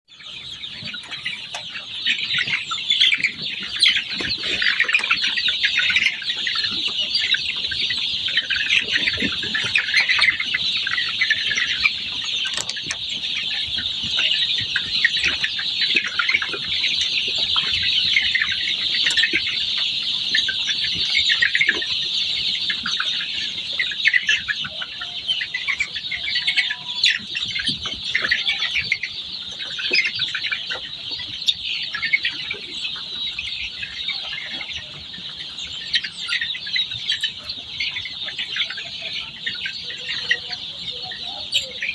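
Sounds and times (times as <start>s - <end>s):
chickens cheeping and clucking: 0.0s - 41.9s.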